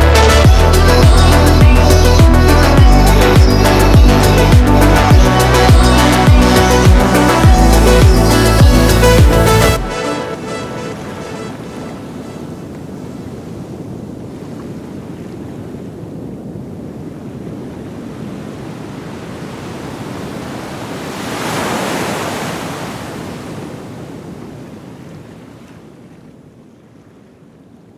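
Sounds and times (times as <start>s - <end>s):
sea waves washing in: 0.0s - 27.5s.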